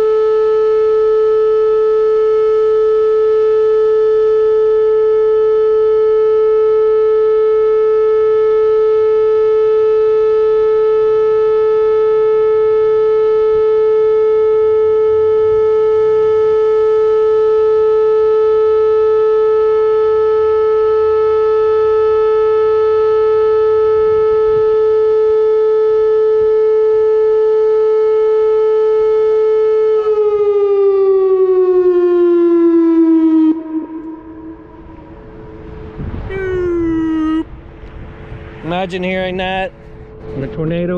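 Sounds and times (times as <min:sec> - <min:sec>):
tornado siren tone: 0:00.0 - 0:40.9.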